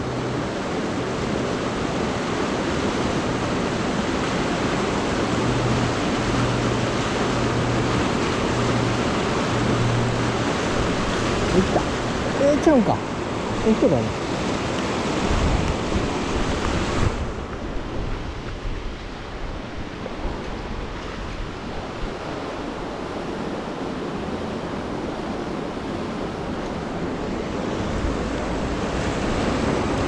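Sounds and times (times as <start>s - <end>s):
river current rushing: 0.0s - 30.0s
wind buffeting microphone: 1.9s - 30.0s.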